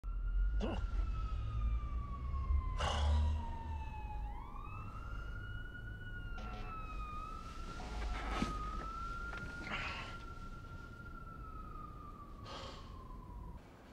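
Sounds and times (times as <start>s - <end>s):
siren wailing: 0.0s - 13.7s.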